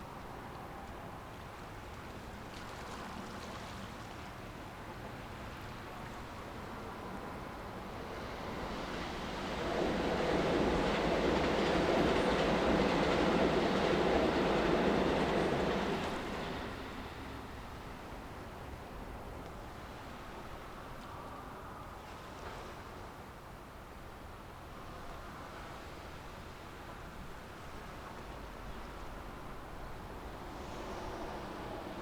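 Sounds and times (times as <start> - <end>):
train passing rumble: 0.0 - 22.6, 24.8 - 32.0.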